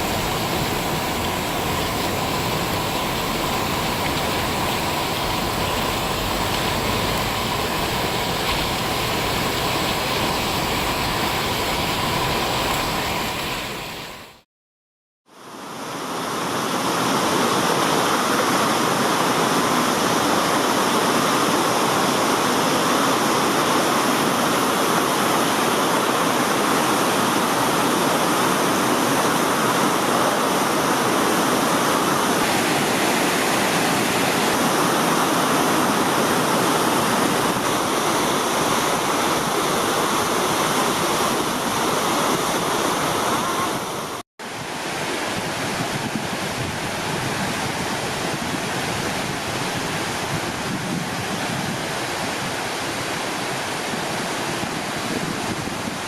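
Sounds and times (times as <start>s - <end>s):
stream rushing: 0.0s - 14.4s, 15.4s - 56.0s.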